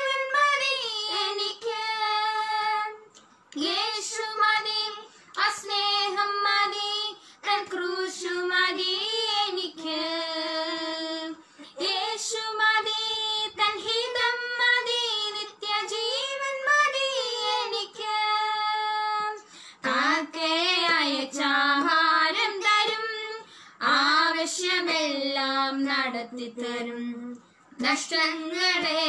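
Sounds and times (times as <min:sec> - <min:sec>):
two women singing unaccompanied: 0:00.0 - 0:29.0.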